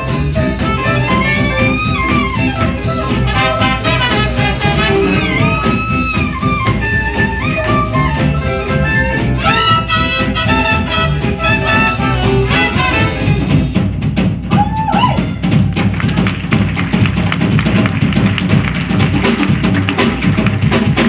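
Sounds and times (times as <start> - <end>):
swing band playing: 0.0 - 21.0.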